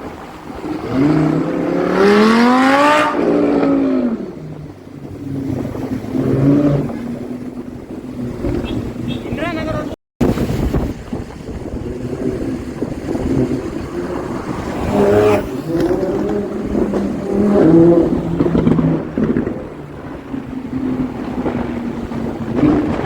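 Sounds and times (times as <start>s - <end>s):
sports car engine revving and passing: 0.5s - 9.2s, 11.6s - 23.0s.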